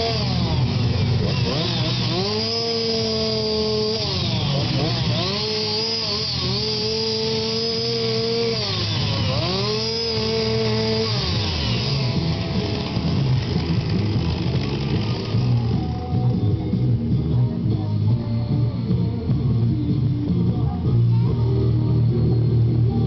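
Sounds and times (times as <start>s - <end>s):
chainsaw running at high revs: 0.0s - 23.0s.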